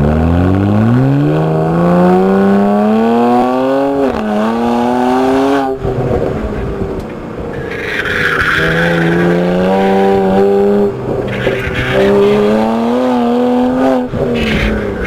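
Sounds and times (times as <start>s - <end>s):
car engine accelerating hard: 0.0s - 6.4s, 8.1s - 15.0s.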